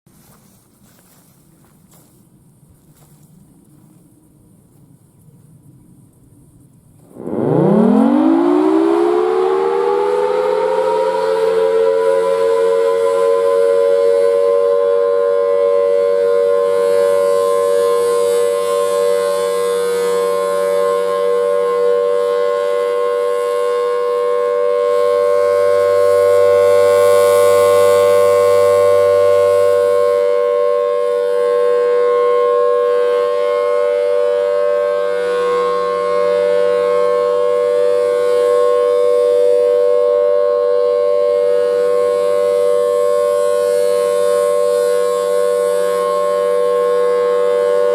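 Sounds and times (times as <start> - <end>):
tornado siren steady alert: 7.0 - 47.9.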